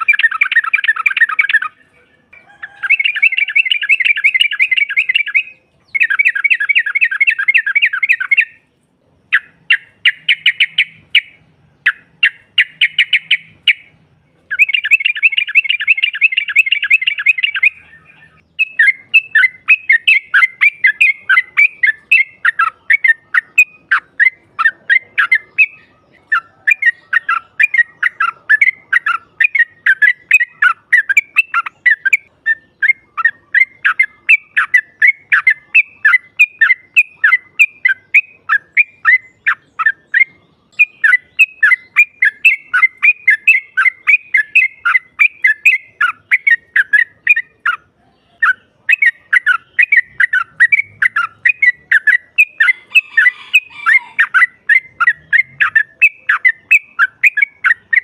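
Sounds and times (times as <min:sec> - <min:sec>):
bird chattering trills: 0:00.0 - 0:58.0
bright bird notes: 0:00.0 - 0:58.0.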